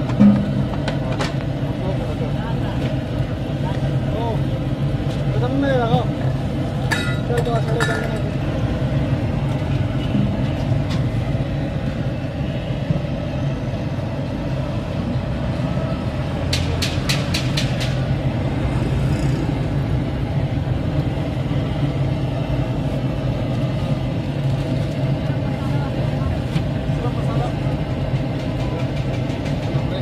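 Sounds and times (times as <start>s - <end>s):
low street rumble: 0.0s - 30.0s.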